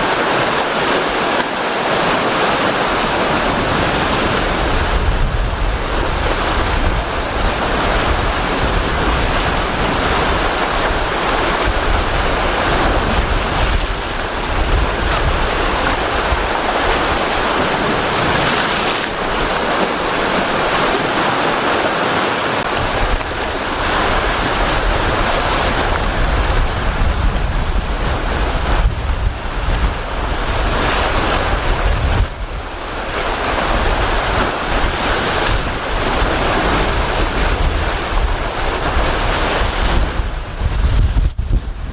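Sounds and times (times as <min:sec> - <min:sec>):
rough sea and breaking waves: 0:00.0 - 0:41.9
strong wind buffeting microphone: 0:00.0 - 0:41.9.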